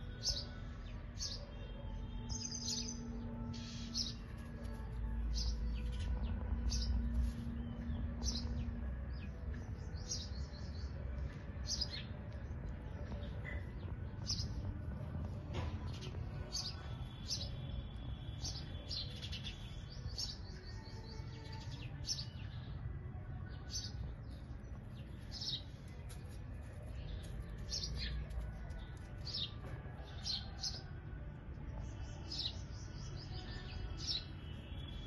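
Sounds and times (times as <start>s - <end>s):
small birds chirping: 0.0s - 29.6s.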